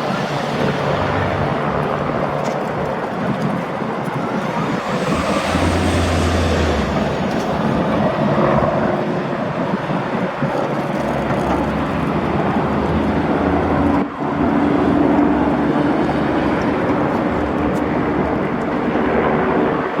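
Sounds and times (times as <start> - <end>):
helicopter in flight: 0.0 - 20.0.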